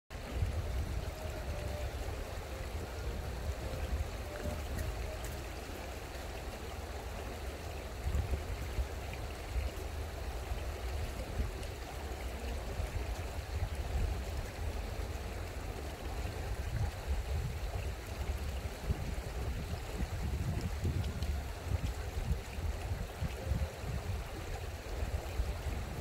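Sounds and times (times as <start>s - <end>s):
stream water running: 0.1s - 26.0s.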